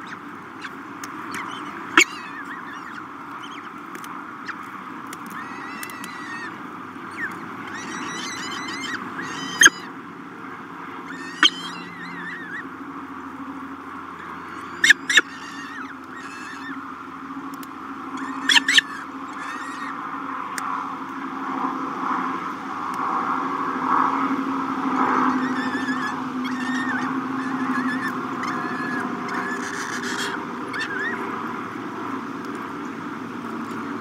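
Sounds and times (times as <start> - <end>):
falcons calling: 0.0 - 20.8, 25.0 - 34.0
steady hum: 0.0 - 34.0.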